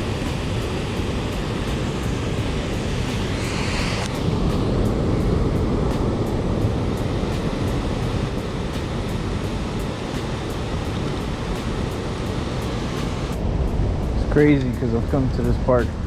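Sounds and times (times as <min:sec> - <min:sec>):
rushing river water: 0:00.0 - 0:13.8.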